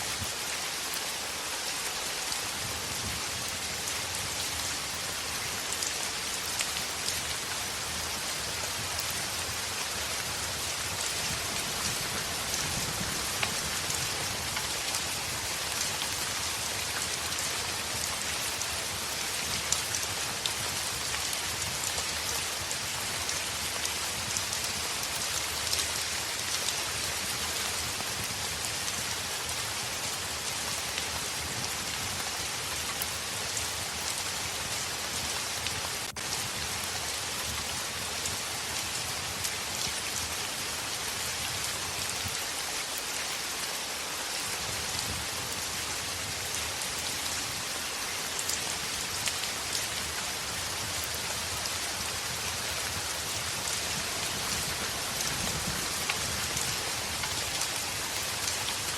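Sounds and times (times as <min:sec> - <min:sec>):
heavy rain on a window: 0:00.0 - 0:58.9.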